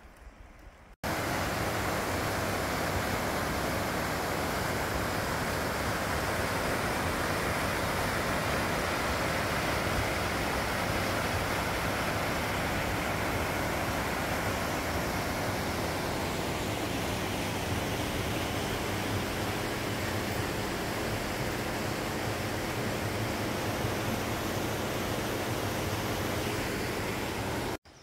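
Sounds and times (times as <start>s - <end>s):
whitewater river rushing over rocks: 1.1s - 27.8s.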